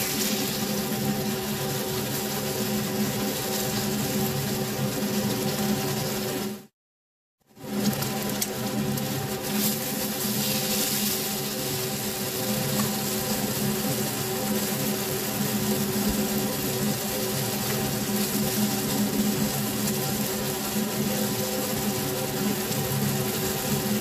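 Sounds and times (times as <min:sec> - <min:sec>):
steak sizzling in frying pan: 0:00.0 - 0:06.4, 0:07.7 - 0:24.0.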